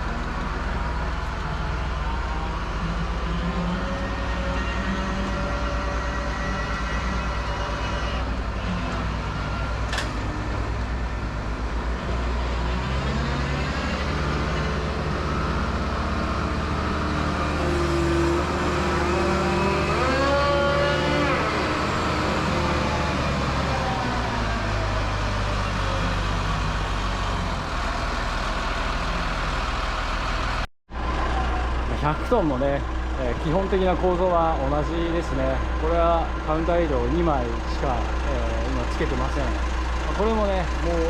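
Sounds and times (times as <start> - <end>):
diesel engine revving: 0.0 - 41.0.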